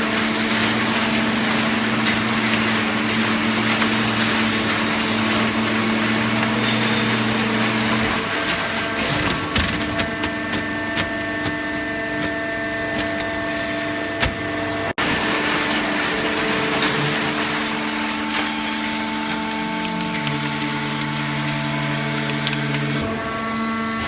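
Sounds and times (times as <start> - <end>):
baling press machine hum: 0.0 - 24.0.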